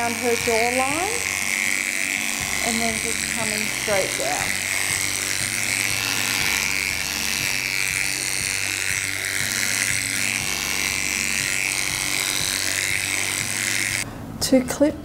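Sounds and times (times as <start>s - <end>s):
dog clipper buzzing: 0.0s - 14.1s.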